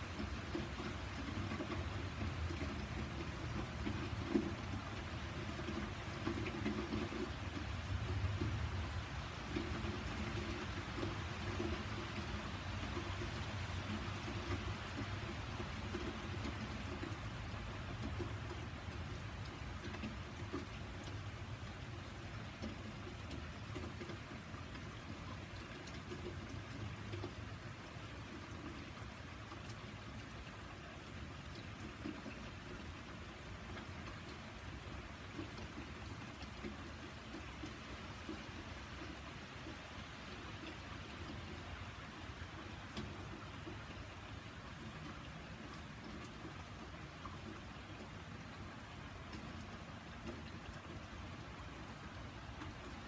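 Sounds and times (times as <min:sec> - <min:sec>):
sharp drip ticks: 0:00.0 - 0:53.0
steady rain on garden and path: 0:00.0 - 0:53.0.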